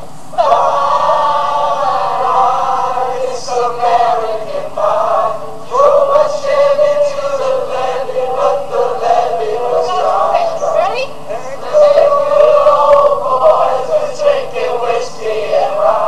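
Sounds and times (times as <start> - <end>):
group singing: 0.4 - 16.0.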